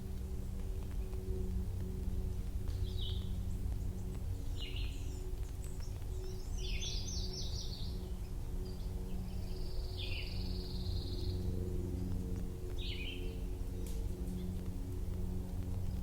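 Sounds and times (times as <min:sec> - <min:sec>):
songbirds calling: 0:00.0 - 0:16.0.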